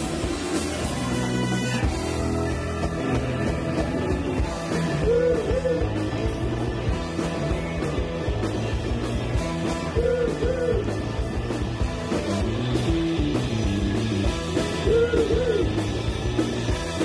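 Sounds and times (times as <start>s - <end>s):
electric guitar: 0.0s - 17.0s
live rock band: 0.0s - 17.0s.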